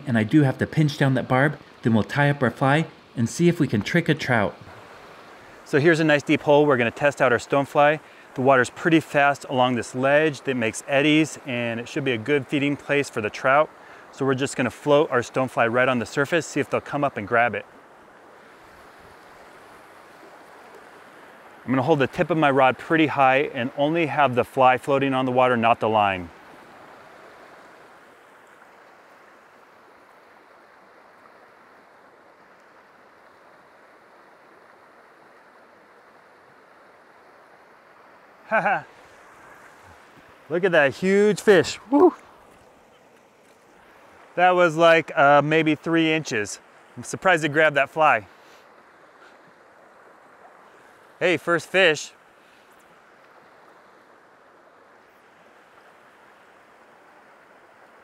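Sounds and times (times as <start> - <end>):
fast-flowing river water: 0.0 - 58.0.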